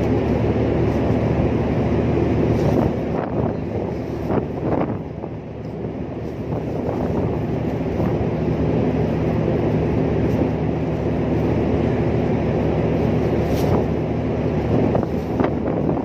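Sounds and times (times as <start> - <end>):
ship machinery droning: 0.0 - 16.0
wind on microphone: 0.0 - 16.0.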